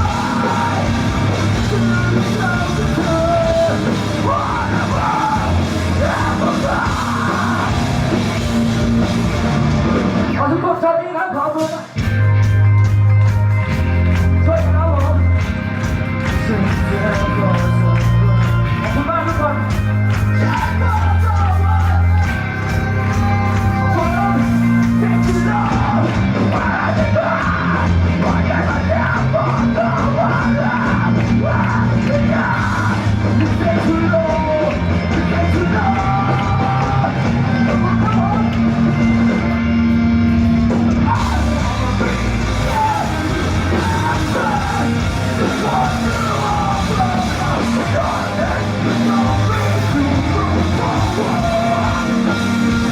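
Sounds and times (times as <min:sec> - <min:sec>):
yelled and sung vocals: 0:00.0 - 0:12.0, 0:14.4 - 0:39.6, 0:40.3 - 0:52.9
bass guitar: 0:00.0 - 0:52.9
distorted guitars: 0:00.0 - 0:52.9
drums: 0:00.0 - 0:52.9.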